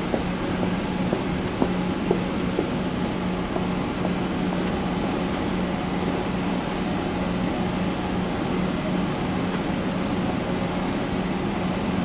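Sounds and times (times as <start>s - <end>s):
train equipment hum and hiss: 0.0s - 12.0s.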